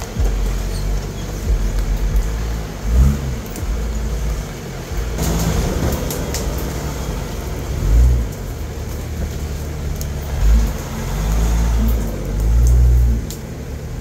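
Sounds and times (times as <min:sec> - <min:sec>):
engine running at low revs: 0:00.0 - 0:14.0
sharp crackles: 0:00.0 - 0:14.0.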